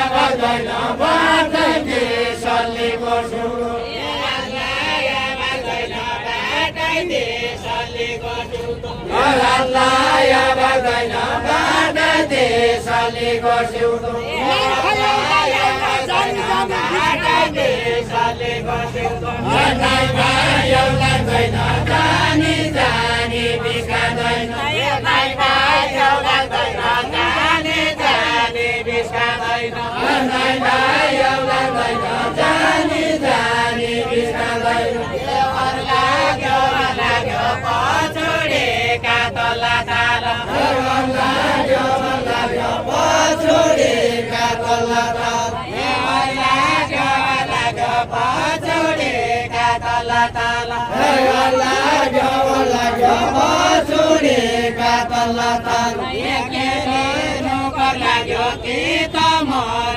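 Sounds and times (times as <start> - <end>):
voices chanting folk song: 0.0 - 59.9.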